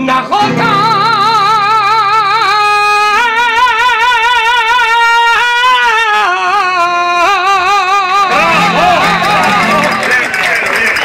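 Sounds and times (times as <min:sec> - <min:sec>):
person singing with vibrato: 0:00.0 - 0:10.3.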